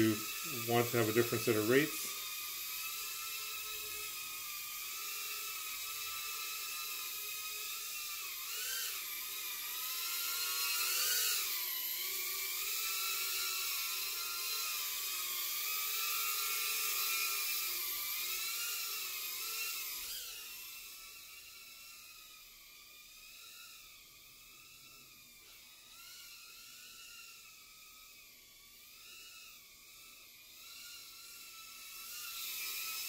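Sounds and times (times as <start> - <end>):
quadcopter motors whining: 0.0 - 33.0.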